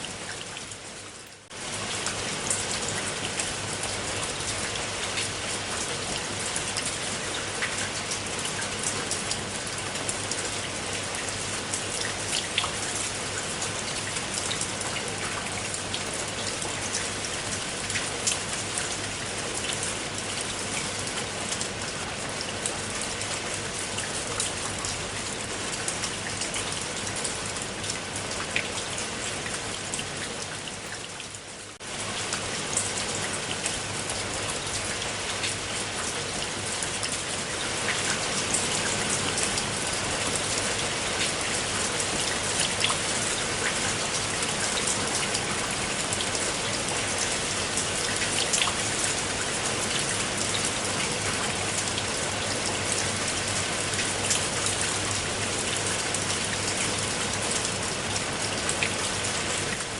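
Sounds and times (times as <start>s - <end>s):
rain drops striking close by: 0.0s - 59.9s.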